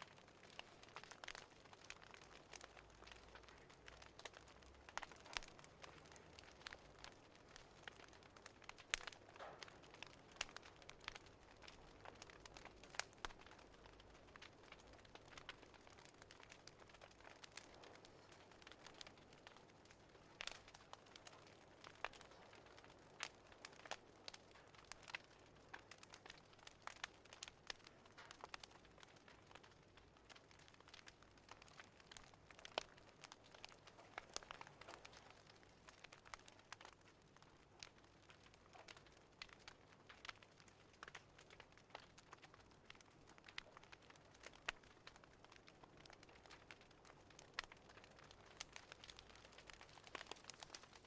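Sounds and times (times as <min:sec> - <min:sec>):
fire crackling: 0:00.0 - 0:51.0
fire pops and snaps: 0:00.0 - 0:51.0.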